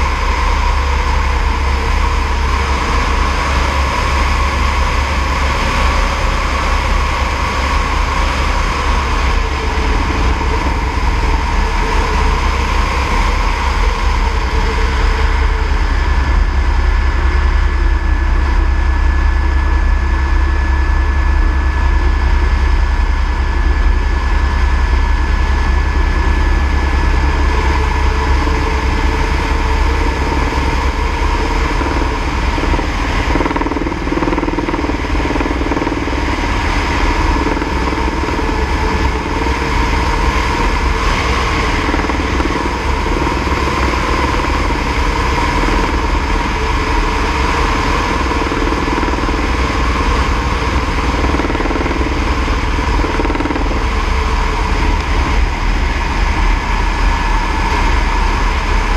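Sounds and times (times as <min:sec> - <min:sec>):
helicopter engine whine: 0:00.0 - 0:58.9
helicopter rotor rumble: 0:00.0 - 0:58.9.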